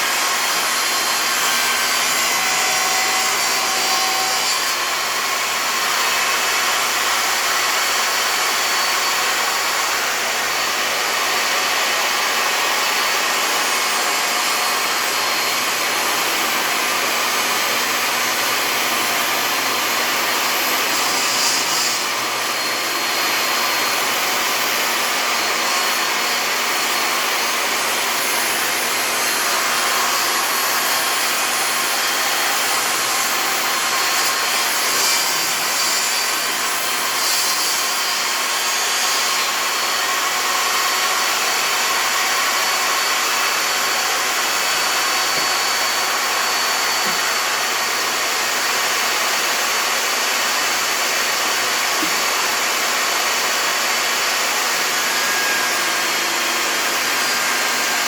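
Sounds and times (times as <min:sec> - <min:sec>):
table saw running: 0:00.0 - 0:58.0.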